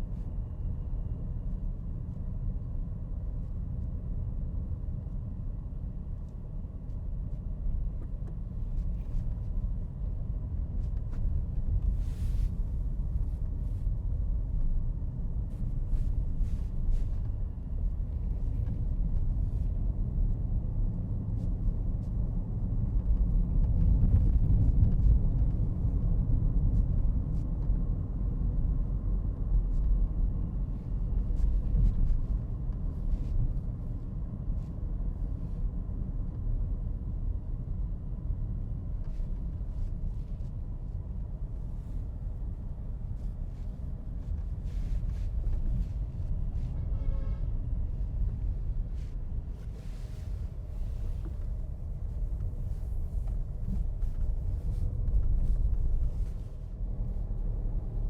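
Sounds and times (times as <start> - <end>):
vehicle road noise rumble: 0.0 - 58.0.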